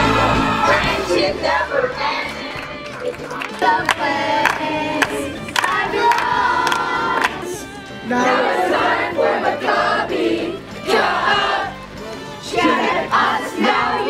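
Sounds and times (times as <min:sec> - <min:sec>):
group singing together: 0:00.0 - 0:14.0.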